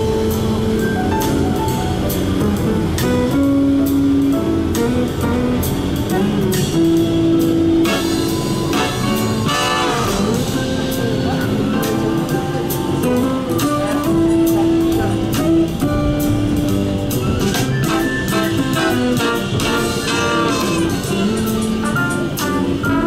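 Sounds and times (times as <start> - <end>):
held melody notes: 0.0 - 23.0
steady drum beat: 0.0 - 23.0.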